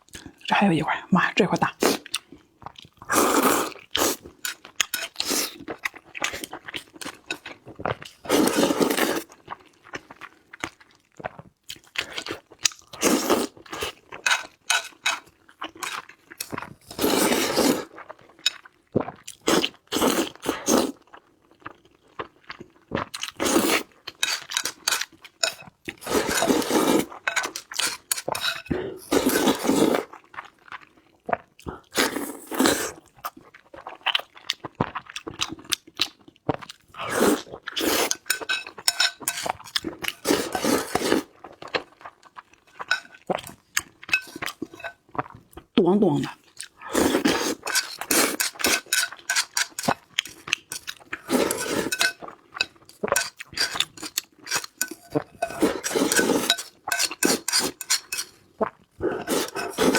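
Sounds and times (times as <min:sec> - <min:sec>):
person chewing food: 0:01.7 - 0:59.9.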